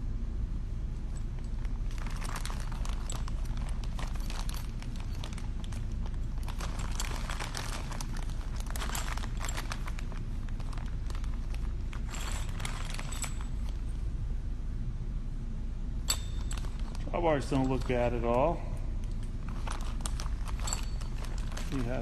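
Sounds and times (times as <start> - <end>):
steady low hum: 0.0 - 22.0
wrapping rustling: 1.4 - 14.0, 16.1 - 22.0.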